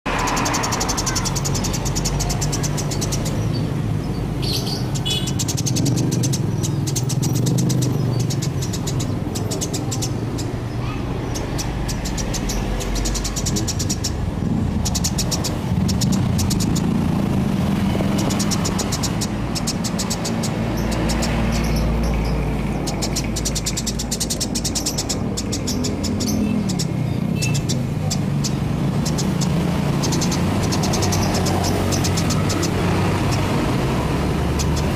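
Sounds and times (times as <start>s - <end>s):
sparrows chirping: 0.1s - 34.9s.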